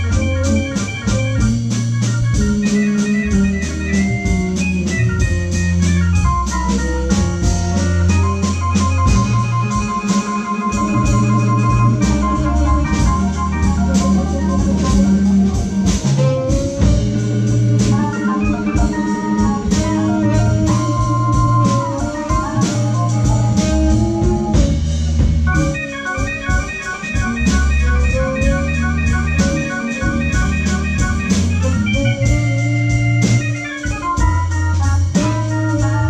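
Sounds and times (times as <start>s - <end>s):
blues band playing live: 0.0s - 36.0s
organ fast repeated high notes: 0.0s - 36.0s.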